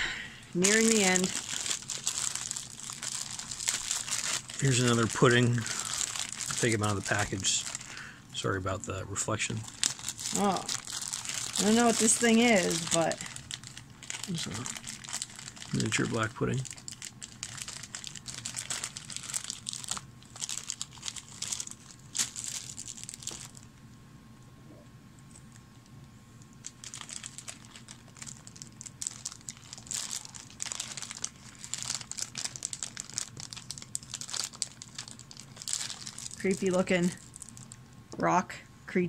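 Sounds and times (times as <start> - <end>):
plastic bags crinkling: 0.0 - 23.8, 26.6 - 37.9.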